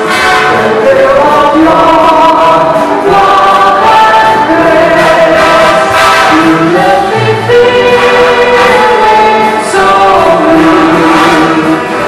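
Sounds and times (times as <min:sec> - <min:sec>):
choir singing in harmony: 0:00.0 - 0:12.0
live band playing: 0:00.0 - 0:12.0.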